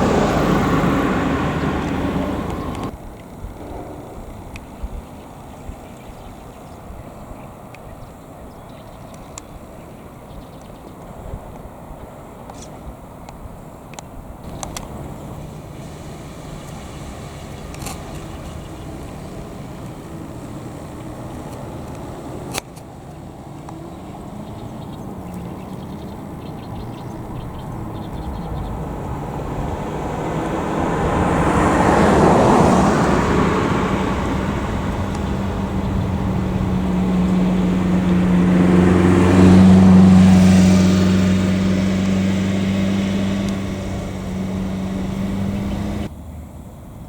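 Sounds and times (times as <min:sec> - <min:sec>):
vehicles passing on road: 0:00.0 - 0:47.0.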